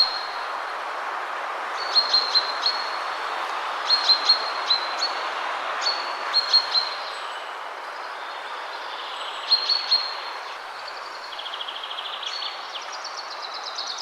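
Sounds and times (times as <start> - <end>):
wind through trees: 0.0 - 14.0.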